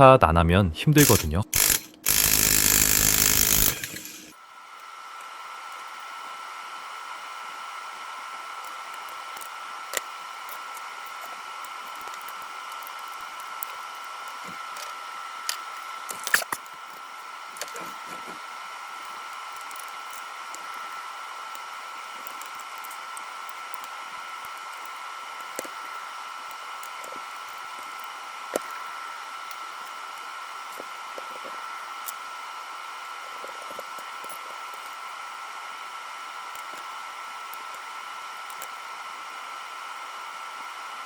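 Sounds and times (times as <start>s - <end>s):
small fan motor whine: 1.0s - 41.0s.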